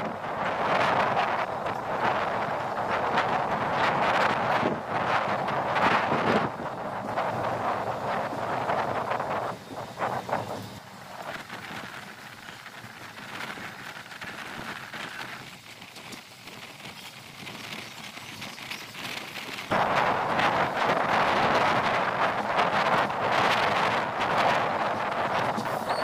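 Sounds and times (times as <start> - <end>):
train and wind rushing: 0.0 - 26.0.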